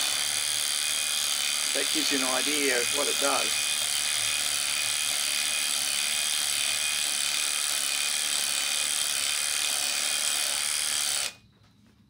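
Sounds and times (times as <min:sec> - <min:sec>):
cordless drill running: 0:00.0 - 0:11.4.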